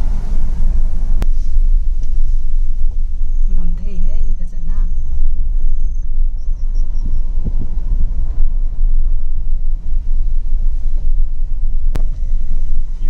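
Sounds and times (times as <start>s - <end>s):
vehicle road and engine rumble: 0.0s - 13.0s.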